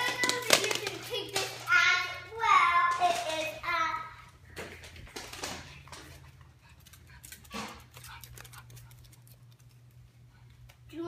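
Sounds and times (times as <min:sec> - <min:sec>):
dog claws clicking on floor: 0:00.0 - 0:02.0, 0:02.7 - 0:03.8, 0:04.5 - 0:10.8.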